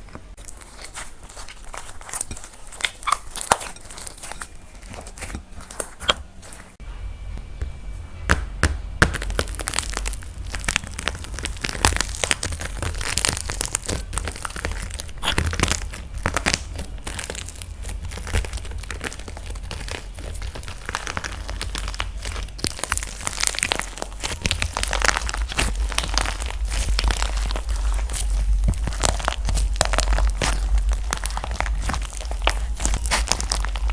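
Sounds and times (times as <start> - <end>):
dried clay crackling and crunching: 0.0 - 33.9
steady low hum: 0.0 - 33.9.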